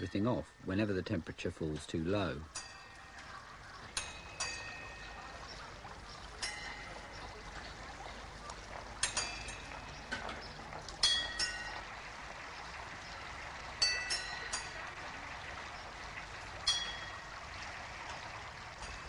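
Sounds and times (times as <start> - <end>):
water pouring and trickling: 0.0 - 19.0.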